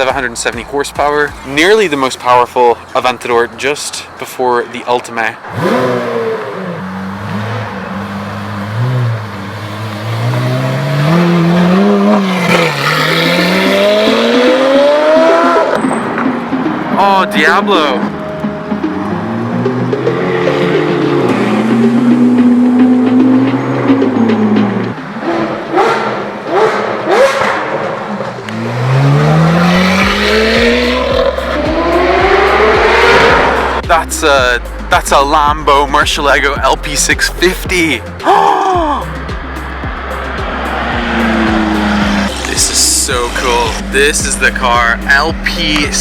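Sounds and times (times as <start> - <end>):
sports car engine accelerating: 5.4 - 17.0, 18.0 - 46.0.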